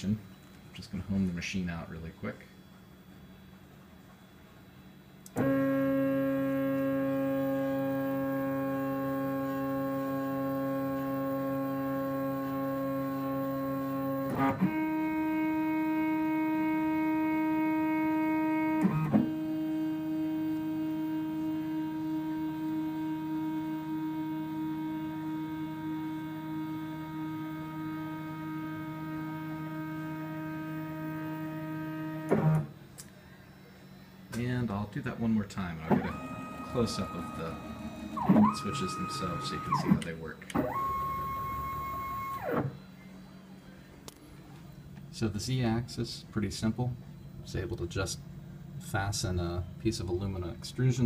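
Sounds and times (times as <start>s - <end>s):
stepper motor whine: 4.9s - 45.8s.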